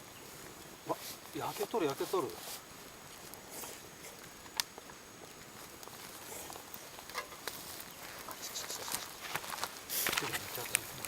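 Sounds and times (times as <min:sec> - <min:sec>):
light hiss: 0:00.0 - 0:11.0
wood fire crackling: 0:00.0 - 0:11.0.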